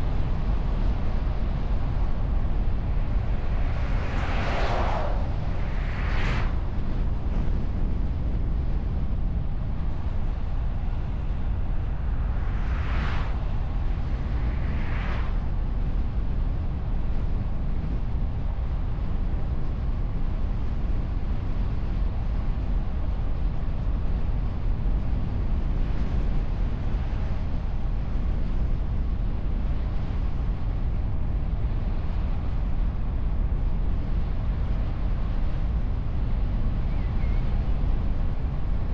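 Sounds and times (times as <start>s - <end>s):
wind and road noise rumble: 0.0s - 38.9s.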